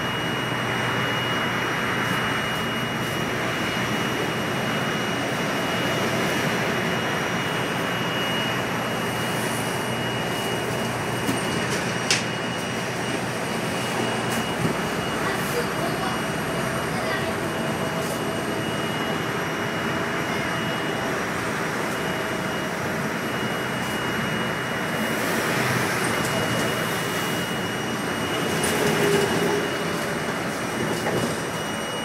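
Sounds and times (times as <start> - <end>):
bus engine and road noise: 0.0 - 32.0.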